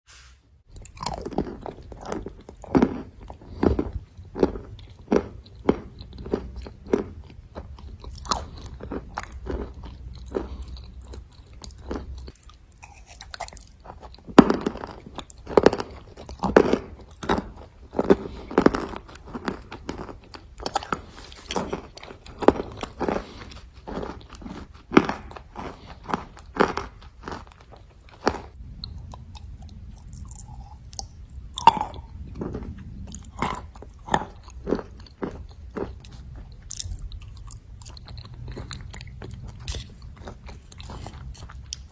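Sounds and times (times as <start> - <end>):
chewing and crunching clay: 0.7 - 41.9.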